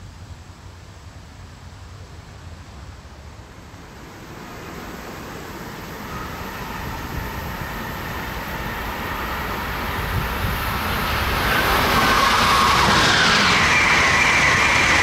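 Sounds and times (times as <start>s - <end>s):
passenger train rumbling on rails: 0.0s - 15.0s.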